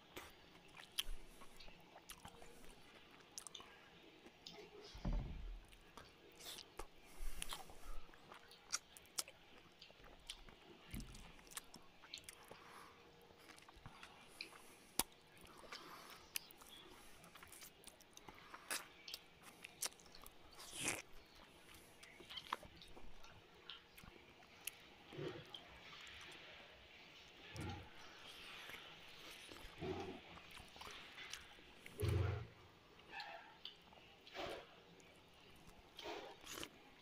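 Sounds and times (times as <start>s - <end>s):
man chewing food: 0.0s - 37.0s.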